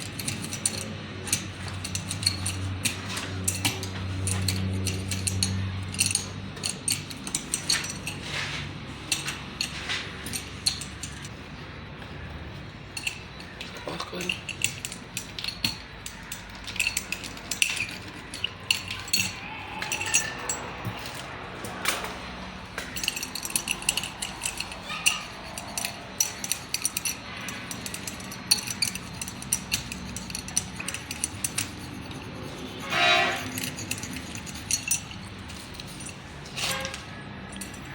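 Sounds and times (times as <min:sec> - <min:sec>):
metal hand tools clinking: 0:00.0 - 0:11.4, 0:12.9 - 0:37.9.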